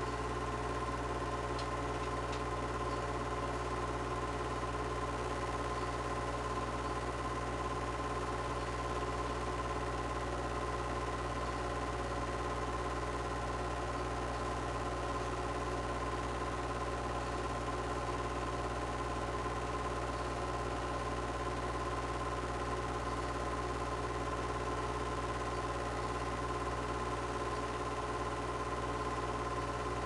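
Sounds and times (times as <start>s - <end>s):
film projector humming: 0.0s - 30.0s.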